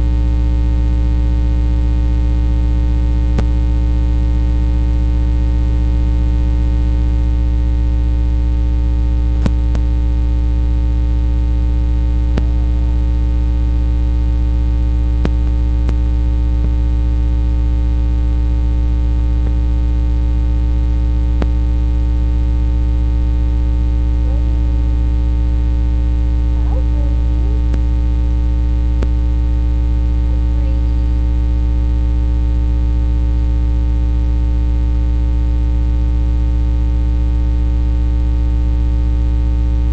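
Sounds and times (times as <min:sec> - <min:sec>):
electrical hum: 0:00.0 - 0:36.8, 0:37.4 - 0:39.9.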